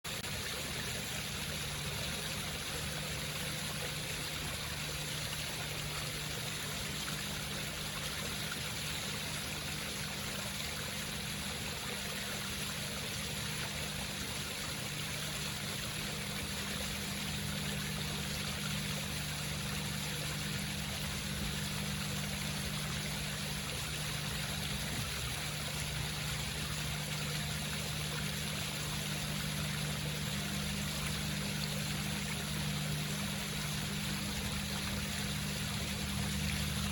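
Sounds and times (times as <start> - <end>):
steady low hum: 0.1 - 36.9
water running down waterfall: 0.1 - 36.9.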